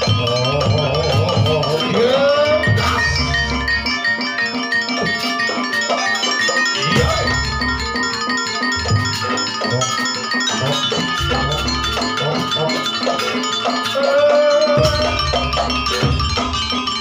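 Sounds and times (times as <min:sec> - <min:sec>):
drum strikes: 0:00.0 - 0:03.8, 0:05.0 - 0:08.0, 0:08.7 - 0:17.0
keyboard: 0:00.0 - 0:17.0
metallophone notes: 0:00.0 - 0:17.0.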